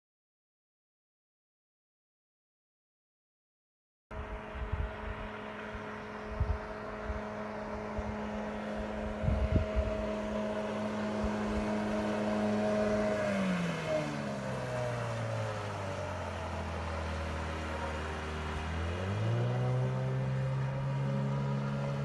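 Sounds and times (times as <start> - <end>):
outboard motor running: 4.2 - 22.0.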